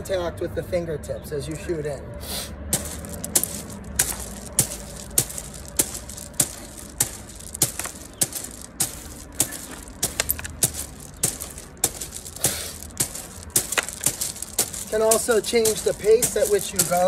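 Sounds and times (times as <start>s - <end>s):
hands thrusting into gravel: 2.7s - 17.0s.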